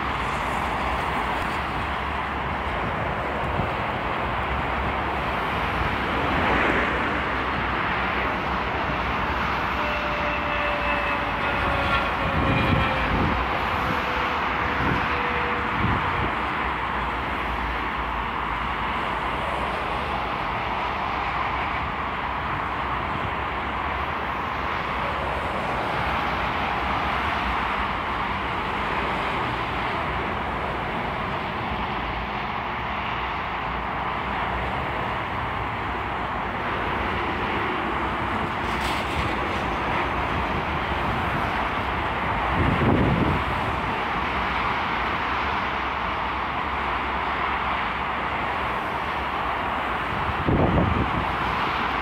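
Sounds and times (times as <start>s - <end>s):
motorway traffic passing: 0.0s - 52.0s.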